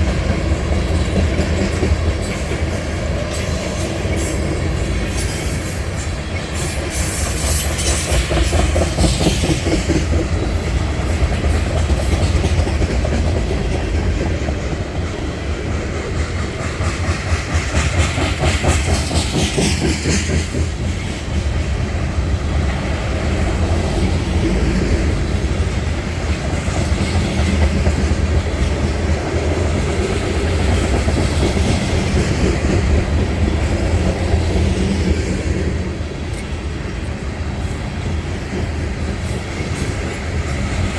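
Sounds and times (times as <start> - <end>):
train low rumble: 0.0 - 40.9
train wheels clicking over rail joints: 0.0 - 40.9.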